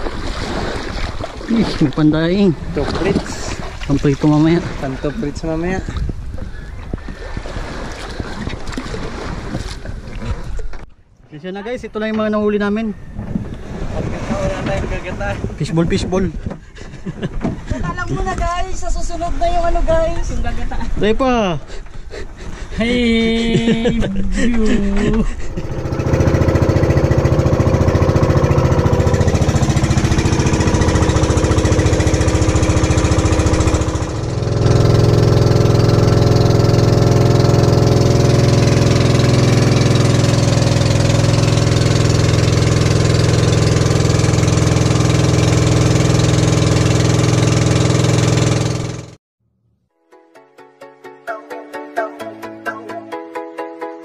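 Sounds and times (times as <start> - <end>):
boat engine running: 0.0 - 11.2, 11.8 - 20.4, 23.0 - 49.2.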